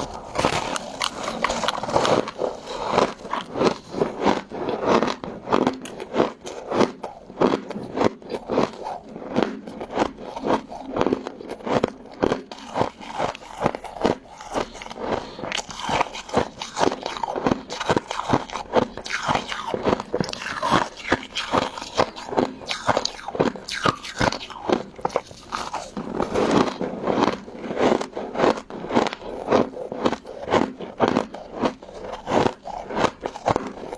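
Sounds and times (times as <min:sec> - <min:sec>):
crunchy food chewing: 0:00.0 - 0:33.9.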